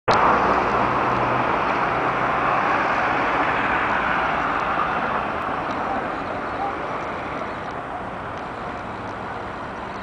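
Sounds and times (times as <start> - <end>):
passing road vehicles: 0.1 - 10.0
faint engine hum: 0.2 - 10.0.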